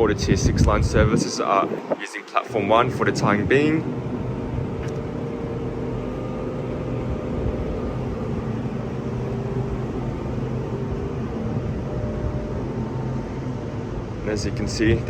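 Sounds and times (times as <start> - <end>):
constant tones: 0.0 - 15.0
electric train humming: 0.0 - 15.0.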